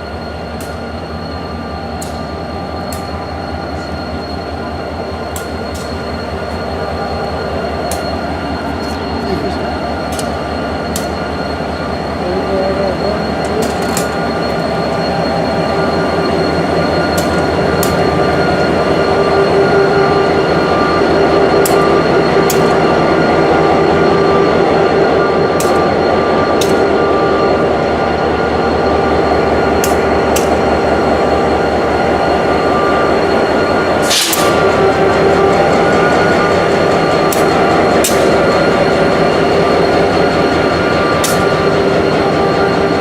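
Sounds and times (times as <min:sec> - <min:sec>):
diesel locomotive engine throbbing: 0:00.0 - 0:43.0
steady high whine: 0:00.0 - 0:43.0.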